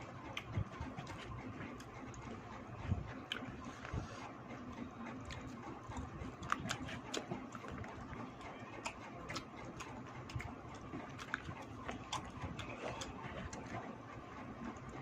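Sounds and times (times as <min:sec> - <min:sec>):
person chewing with lip-smacking: 0:00.1 - 0:15.0.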